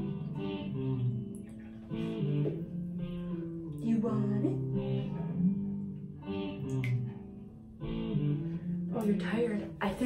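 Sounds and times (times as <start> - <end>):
guitar plucked notes: 0.0 - 10.0.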